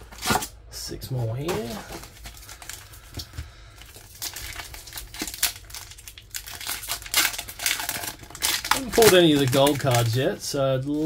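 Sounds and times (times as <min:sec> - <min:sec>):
foil wrapper crackling: 0:01.4 - 0:11.0
foil wrapper ripping: 0:01.5 - 0:10.4.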